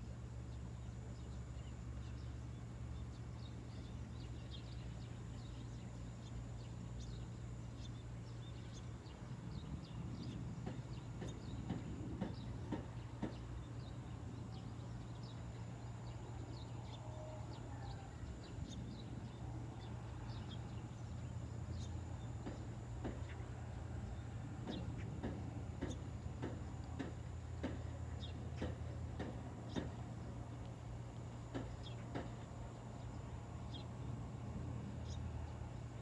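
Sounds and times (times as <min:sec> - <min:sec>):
low wind rumble: 0:01.5 - 0:31.9.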